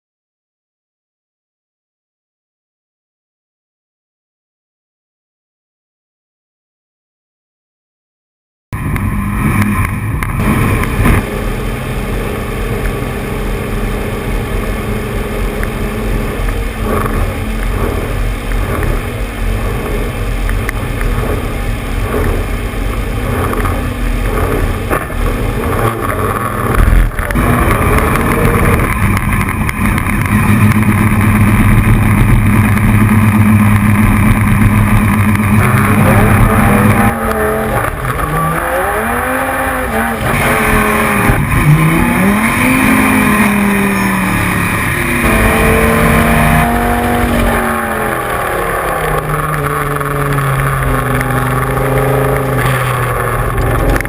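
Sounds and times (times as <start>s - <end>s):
racing engine revving: 8.8s - 54.0s.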